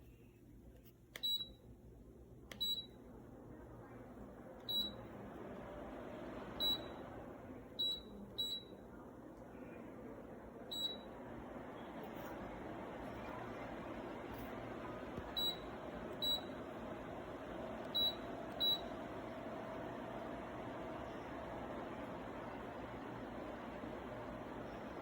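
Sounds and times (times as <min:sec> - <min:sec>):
fan air rush: 0:02.1 - 0:25.0.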